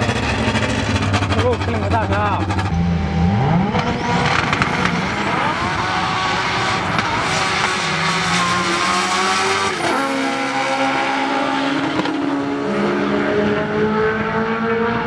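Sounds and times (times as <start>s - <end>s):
drag racing car engines at full throttle: 0.0s - 15.0s.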